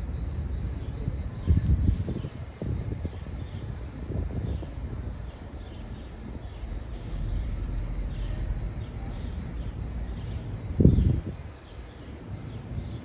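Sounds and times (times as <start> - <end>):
insects chirping in high trill: 0.0 - 13.0
low rumbling noise: 0.0 - 13.0.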